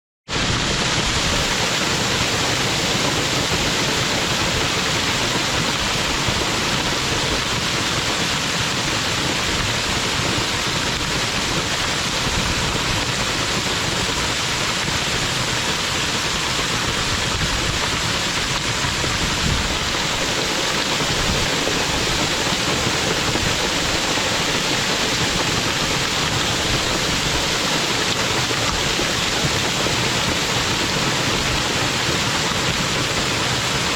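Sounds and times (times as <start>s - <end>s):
waterfall rushing: 0.3s - 33.9s.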